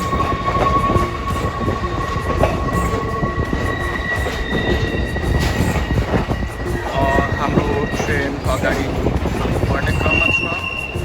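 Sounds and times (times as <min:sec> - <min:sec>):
high two-tone whine: 0:00.0 - 0:11.0
train rumbling on track: 0:00.0 - 0:11.0.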